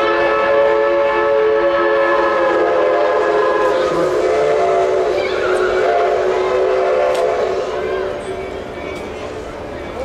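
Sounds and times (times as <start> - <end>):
steam locomotive whistle: 0.0 - 8.6.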